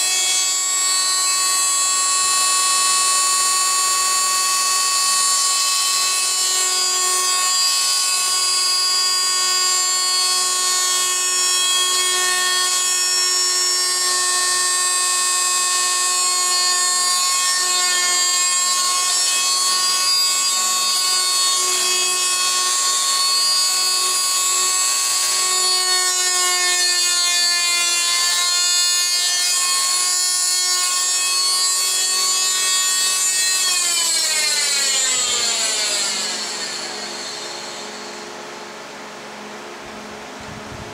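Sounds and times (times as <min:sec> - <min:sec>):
oscillating multi-tool whining: 0:00.0 - 0:40.1.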